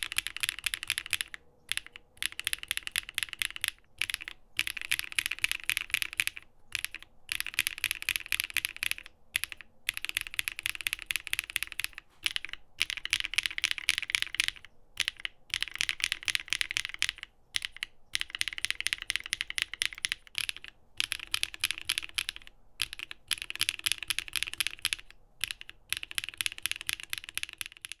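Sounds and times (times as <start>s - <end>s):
fast mechanical keyboard typing: 0.0s - 28.0s.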